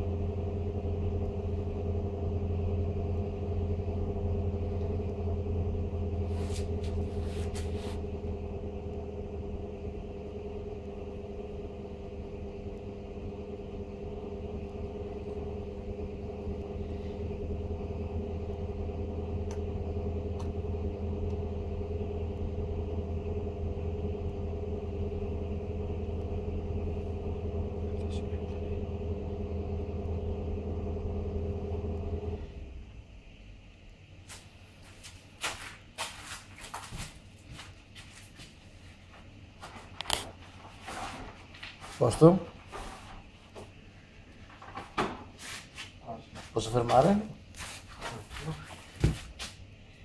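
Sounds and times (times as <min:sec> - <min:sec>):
fan running with constant hum: 0:00.0 - 0:50.0.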